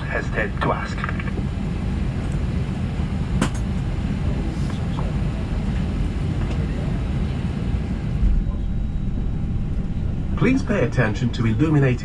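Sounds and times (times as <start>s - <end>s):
aircraft cabin air-conditioning rumble: 0.0s - 12.0s.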